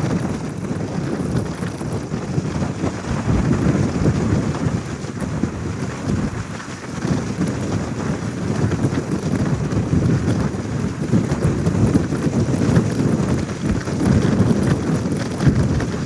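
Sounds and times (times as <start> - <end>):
car wind and road rumble: 0.0 - 16.0.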